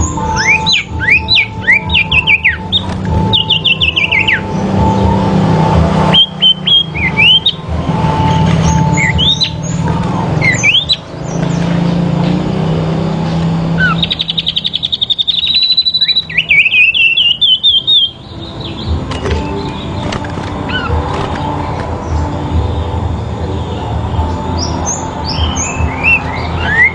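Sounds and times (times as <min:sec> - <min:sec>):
songbirds chirping and trilling: 0:00.0 - 0:26.9.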